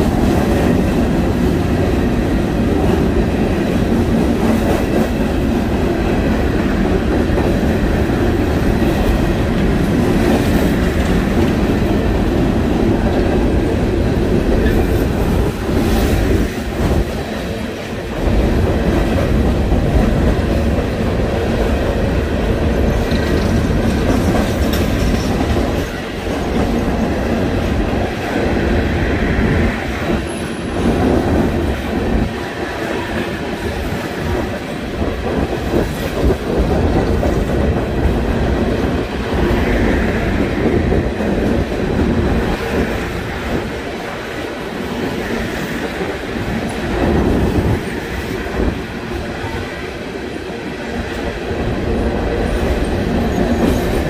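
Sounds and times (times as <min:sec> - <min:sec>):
freight train wheels clacking: 0:00.0 - 0:54.0.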